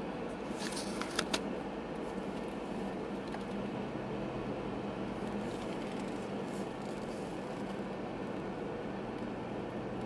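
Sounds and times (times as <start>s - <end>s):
car cabin road noise: 0.0s - 10.0s.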